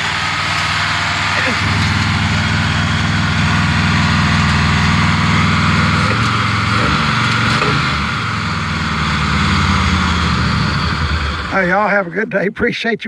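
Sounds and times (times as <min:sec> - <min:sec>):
van engine rumbling: 0:00.0 - 0:13.0.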